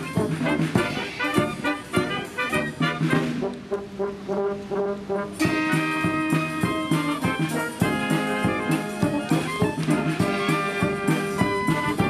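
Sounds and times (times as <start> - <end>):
brass band music: 0.0 - 12.0.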